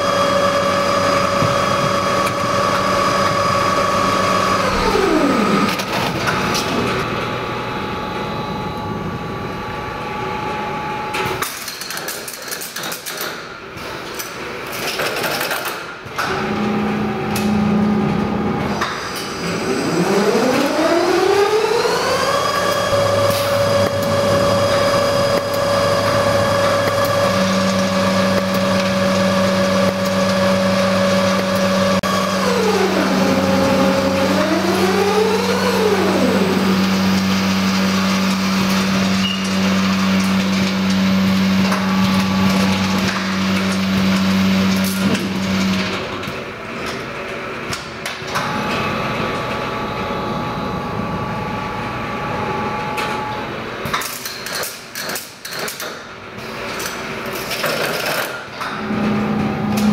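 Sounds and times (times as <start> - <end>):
winding machine hum and whine: 0.0 - 12.0, 16.0 - 54.3, 56.3 - 59.9.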